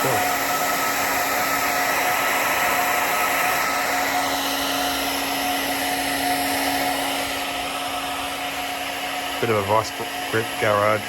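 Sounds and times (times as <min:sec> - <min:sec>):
hot-air blower whining: 0:00.0 - 0:11.0.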